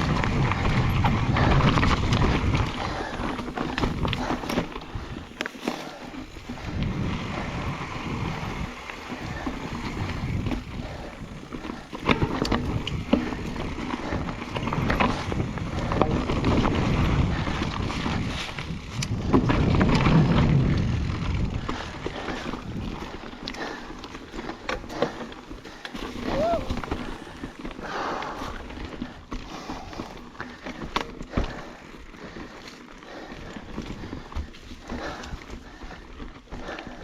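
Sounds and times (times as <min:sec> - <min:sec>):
bike knocks and rattles: 0:00.0 - 0:36.8
bike tyres on dirt trail: 0:00.0 - 0:37.0.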